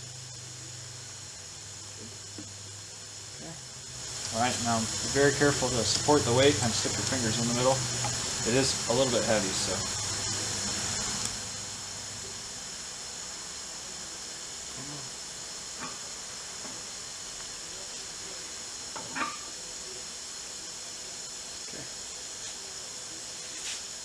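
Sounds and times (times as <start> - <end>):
background hiss: 0.0 - 24.0.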